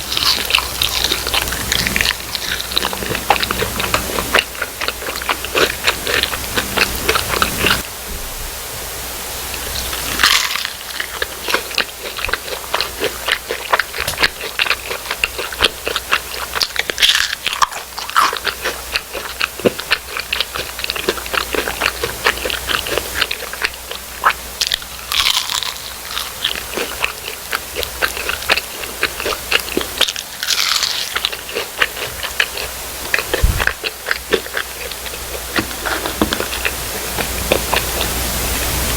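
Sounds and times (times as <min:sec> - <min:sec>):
crispy food crunching: 0:00.0 - 0:07.8, 0:09.7 - 0:38.8.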